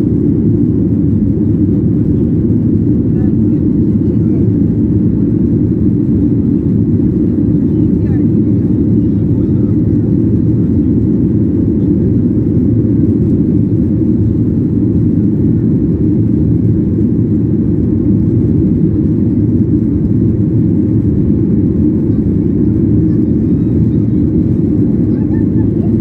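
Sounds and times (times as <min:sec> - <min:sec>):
jet engine and airflow rumble: 0:00.0 - 0:26.0.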